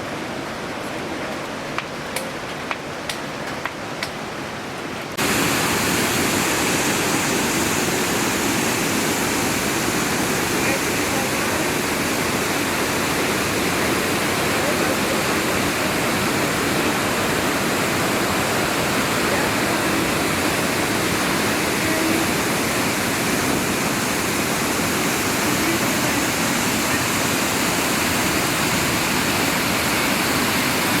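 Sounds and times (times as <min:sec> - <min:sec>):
falling water rushing: 0:00.0 - 0:31.0.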